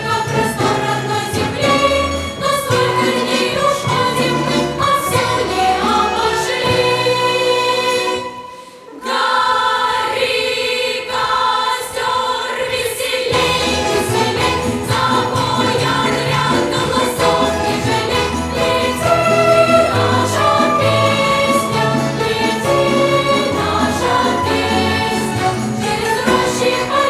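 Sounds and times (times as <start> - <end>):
musical accompaniment: 0.0 - 9.2, 13.3 - 27.0
choir singing: 0.0 - 27.0.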